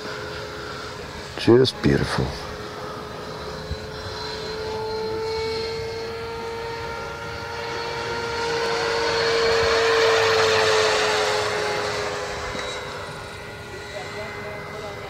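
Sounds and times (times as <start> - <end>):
rc helicopter whine flying past: 0.0 - 15.0.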